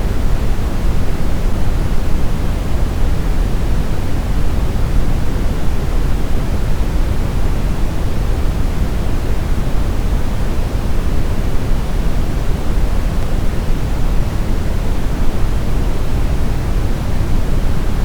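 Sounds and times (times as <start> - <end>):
brown noise rumbling hiss: 0.0 - 18.0.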